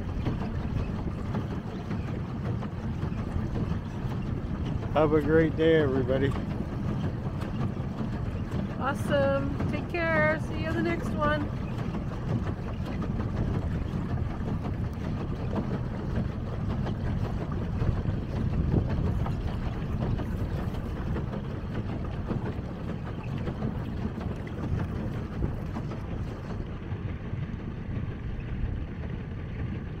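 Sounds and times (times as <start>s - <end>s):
water lapping against boat: 0.0s - 30.0s
wind rumble on microphone: 0.0s - 30.0s.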